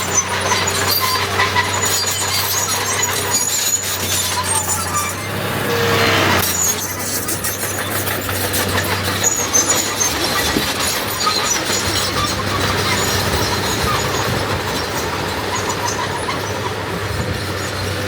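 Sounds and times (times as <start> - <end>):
bulldozer diesel engine running: 0.0 - 18.0
steel tracks squealing and clinking: 0.0 - 18.0.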